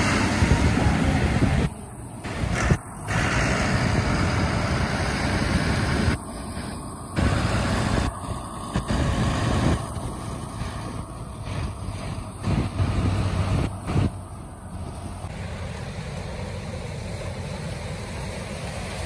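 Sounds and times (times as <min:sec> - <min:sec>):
outboard motors running: 0:00.0 - 0:19.0
steady rush of noise: 0:00.0 - 0:19.0.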